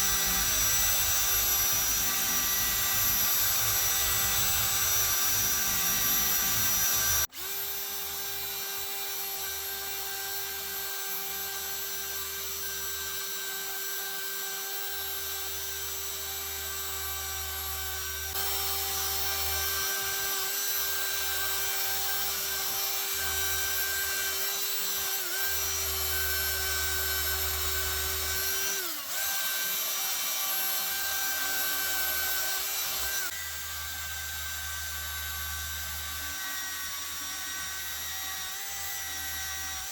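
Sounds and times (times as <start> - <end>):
electric rotary tool whining: 0.0 - 39.9.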